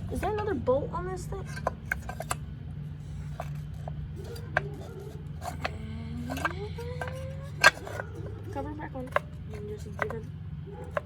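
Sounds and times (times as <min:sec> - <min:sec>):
hand tools clicking on metal: 0:00.0 - 0:00.5, 0:01.3 - 0:11.0
steady low hum: 0:00.0 - 0:11.0.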